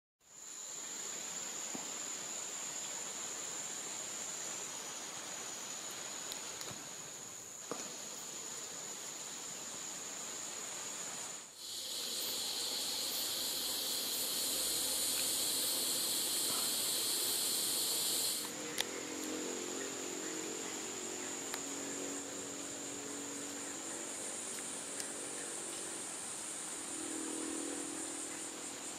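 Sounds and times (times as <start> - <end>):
low pulsing insect call: 0.2 - 28.9
buzzing insect chorus: 0.3 - 28.9
high-pitched insect trill: 0.3 - 28.9.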